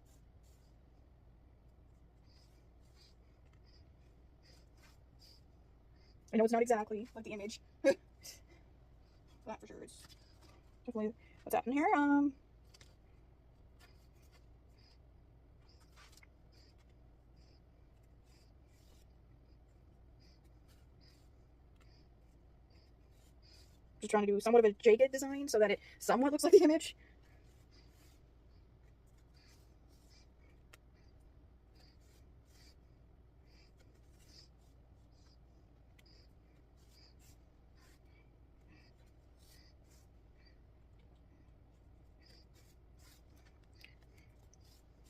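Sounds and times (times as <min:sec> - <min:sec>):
low room hum: 0:00.0 - 0:45.0.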